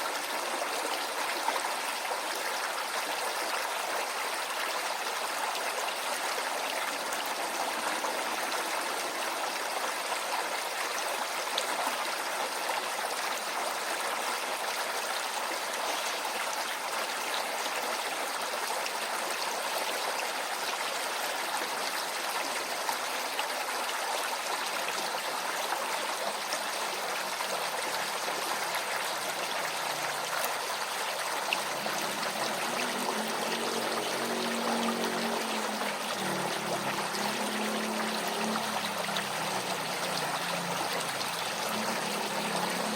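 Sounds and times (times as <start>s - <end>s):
stream water rushing and trickling: 0.0s - 42.9s.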